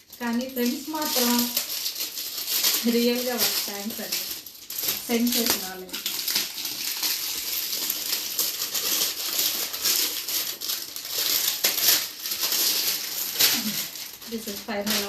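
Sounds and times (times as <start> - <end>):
wrapping crinkling: 0.0 - 15.0.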